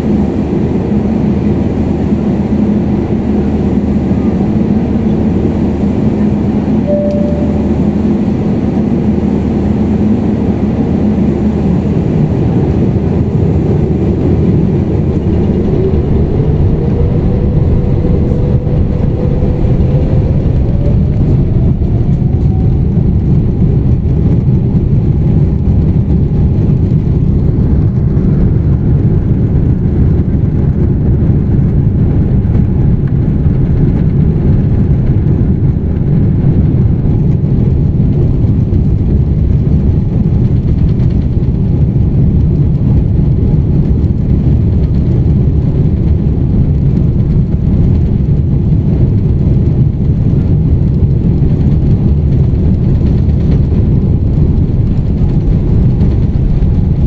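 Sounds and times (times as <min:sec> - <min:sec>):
aircraft rolling on ground: 0:00.0 - 0:57.0
jet engines rumbling: 0:00.0 - 0:57.0.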